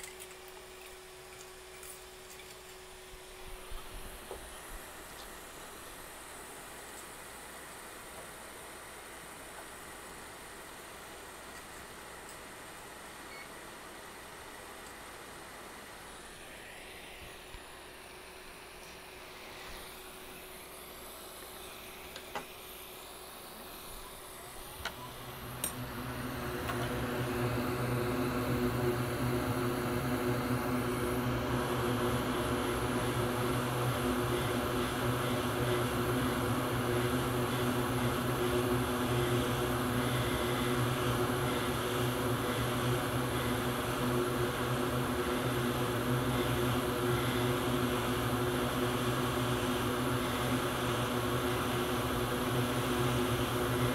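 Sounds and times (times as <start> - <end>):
hot air blower fan hum: 0.0 - 53.9.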